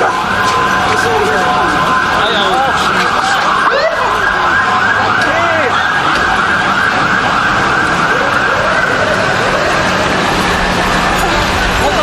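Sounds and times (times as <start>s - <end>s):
siren yelping: 0.0s - 12.0s
street traffic noise: 0.0s - 12.0s.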